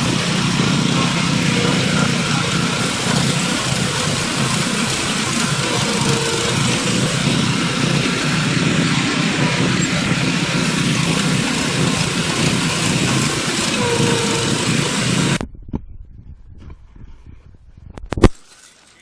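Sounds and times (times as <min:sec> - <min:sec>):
engine or motor running: 0:00.0 - 0:15.4.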